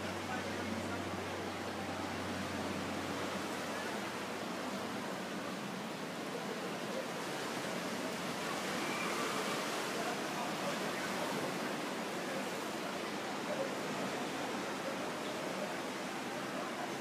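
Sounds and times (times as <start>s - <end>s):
distant surf: 0.0s - 17.0s.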